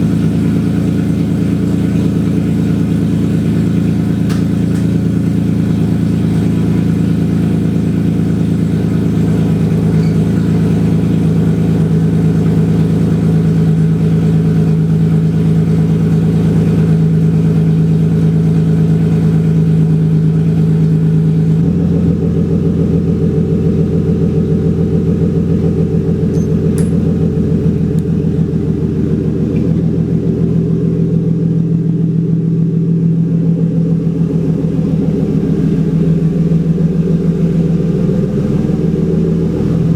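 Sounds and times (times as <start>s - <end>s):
car engine exhaust note: 0.0s - 39.9s.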